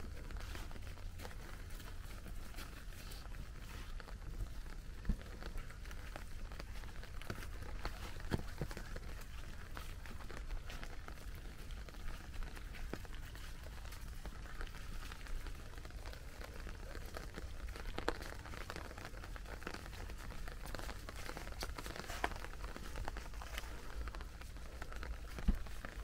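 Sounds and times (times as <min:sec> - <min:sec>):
dog paws rustling leaves: 0:00.0 - 0:26.0
footsteps on wet leaves: 0:00.0 - 0:26.0
rain patter: 0:00.0 - 0:26.0.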